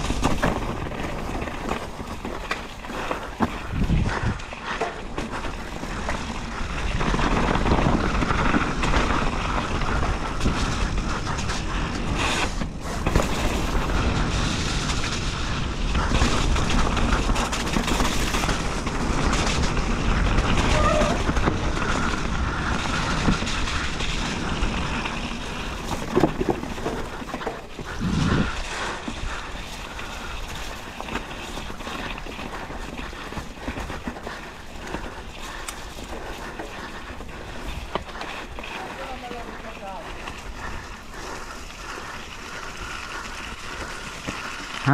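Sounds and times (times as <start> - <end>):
bike rattling over ground: 0.0 - 44.9
rushing noise of bike ride: 0.0 - 44.9.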